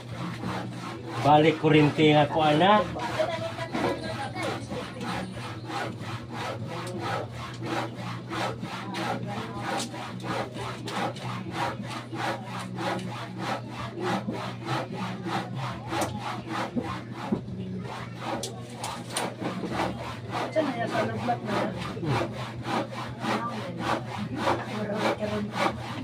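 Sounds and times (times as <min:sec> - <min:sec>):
hand saw cutting wood: 0:00.0 - 0:26.0.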